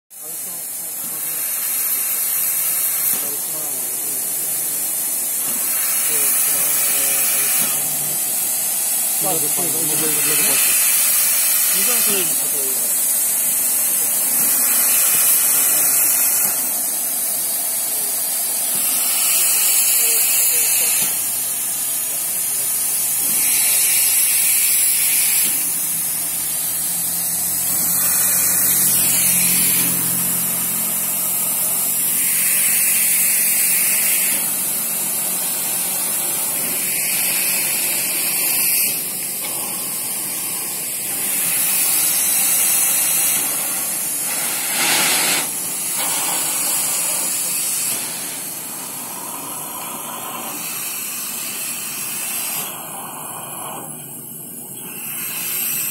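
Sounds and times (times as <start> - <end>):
locomotive hissing steam: 0.2 - 55.9.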